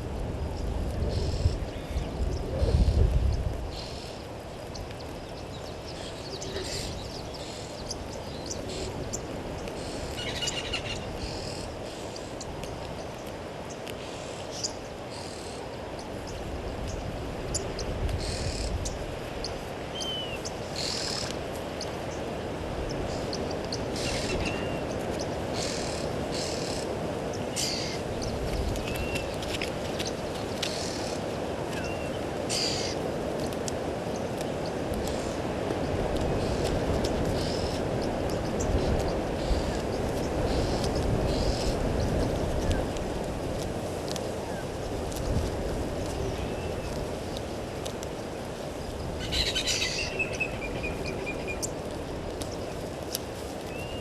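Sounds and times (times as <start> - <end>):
birds chirping: 0.6 - 43.0, 48.8 - 52.9, 53.6 - 54.0.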